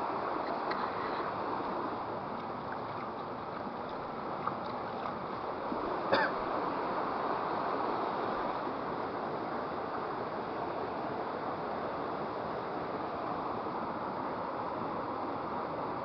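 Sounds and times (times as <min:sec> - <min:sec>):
water rushing in a stream: 0:00.0 - 0:16.0.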